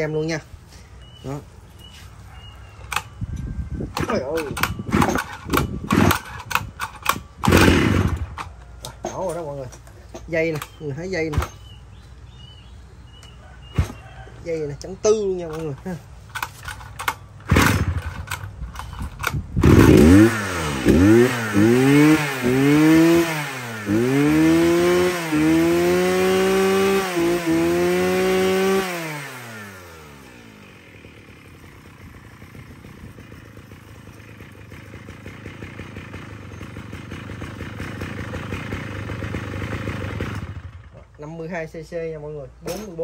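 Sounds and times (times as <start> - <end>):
brush cutter engine revving: 3.8 - 11.8, 13.8 - 41.2.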